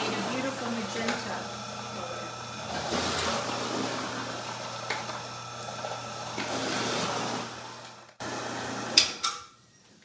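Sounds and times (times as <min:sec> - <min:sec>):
electric juicer motor hum: 0:00.0 - 0:09.2.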